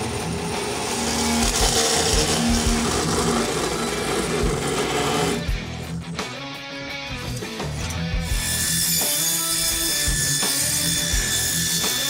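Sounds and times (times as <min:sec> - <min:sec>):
saw motor hum: 0:00.0 - 0:06.1, 0:08.2 - 0:12.0
saw blade grinding metal: 0:00.0 - 0:06.2, 0:07.1 - 0:12.0.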